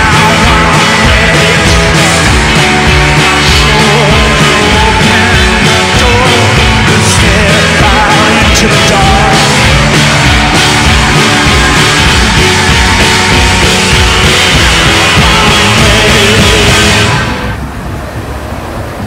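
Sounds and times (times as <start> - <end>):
loud rock music: 0.0 - 17.7.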